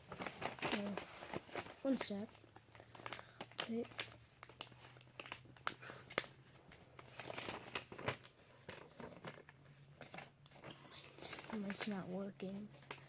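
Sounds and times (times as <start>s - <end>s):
paper being folded and creased: 0.0s - 13.0s.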